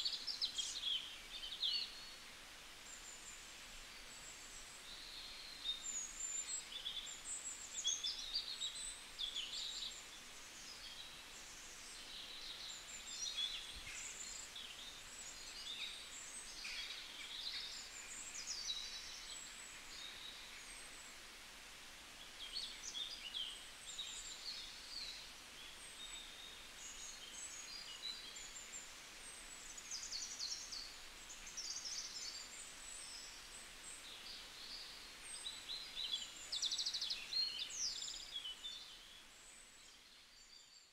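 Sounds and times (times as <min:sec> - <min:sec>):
faint steady hiss: 0:00.0 - 0:40.9
small birds chirping: 0:02.8 - 0:21.3, 0:22.2 - 0:40.9.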